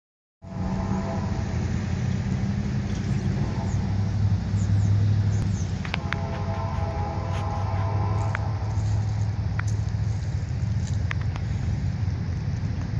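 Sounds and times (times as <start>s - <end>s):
engine humming: 0.4s - 12.9s.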